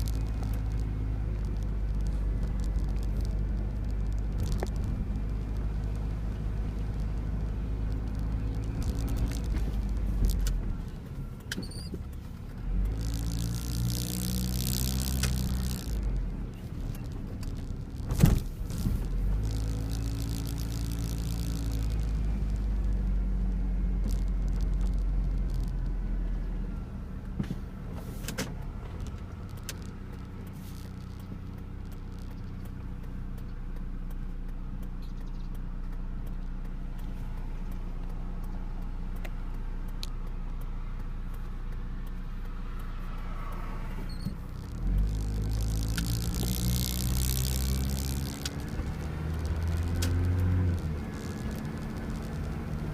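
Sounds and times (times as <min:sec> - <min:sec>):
faint clicks: 0:00.0 - 0:26.5, 0:28.2 - 0:52.9
car engine hum and road noise: 0:00.0 - 0:52.9.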